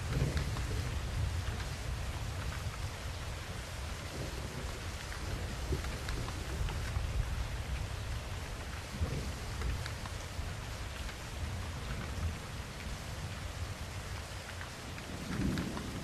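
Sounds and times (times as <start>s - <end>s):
low rumble of thunder: 0.0s - 16.0s
steady rain: 0.0s - 16.0s.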